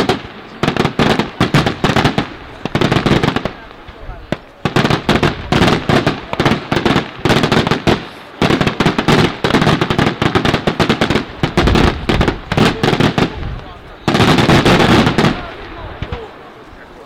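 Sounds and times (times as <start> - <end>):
firecracker bangs: 0.0 - 16.4.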